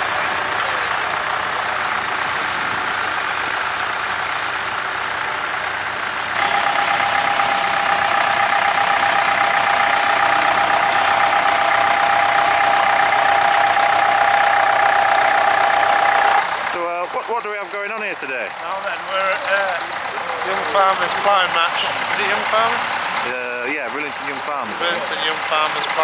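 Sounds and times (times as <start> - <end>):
high whine: 0.0 - 25.3
tractor engine running: 0.0 - 26.0.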